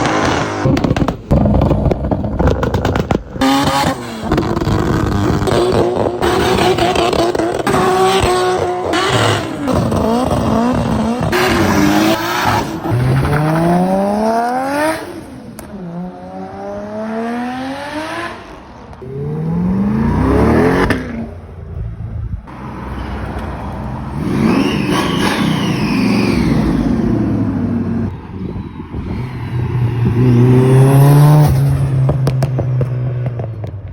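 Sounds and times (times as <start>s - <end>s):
car engines revving and accelerating: 0.0s - 33.9s.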